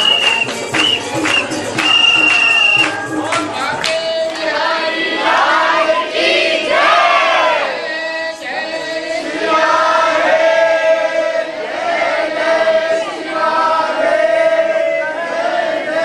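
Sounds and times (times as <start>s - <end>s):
group singing devotional chorus: 0.1s - 16.0s.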